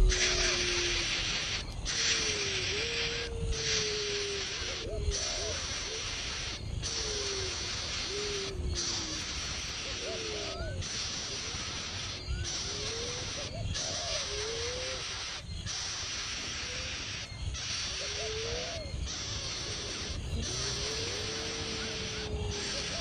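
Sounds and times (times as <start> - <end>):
low gliding bird calls: 0.0 - 23.0
steady high hiss: 0.0 - 23.0.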